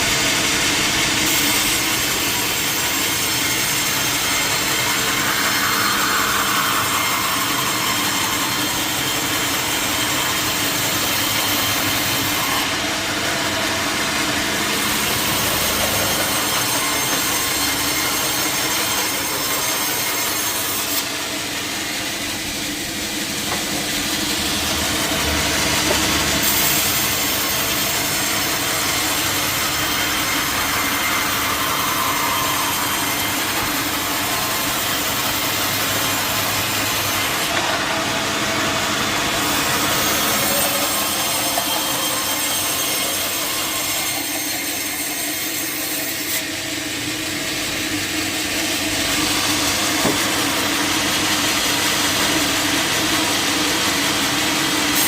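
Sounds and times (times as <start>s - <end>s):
mill machinery running: 0.0s - 55.0s
sawmill saw cutting log: 0.0s - 55.0s.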